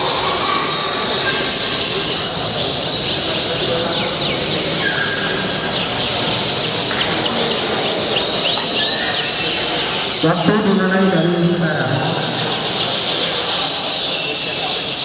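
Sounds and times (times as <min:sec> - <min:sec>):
background hubbub: 0:00.0 - 0:15.0
songbirds chirping: 0:00.0 - 0:15.0.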